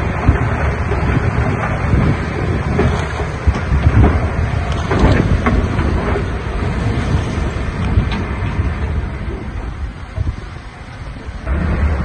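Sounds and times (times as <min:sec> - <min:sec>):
heavy machinery diesel engine running: 0:00.0 - 0:12.0
wind rumbling on microphone: 0:00.0 - 0:12.0.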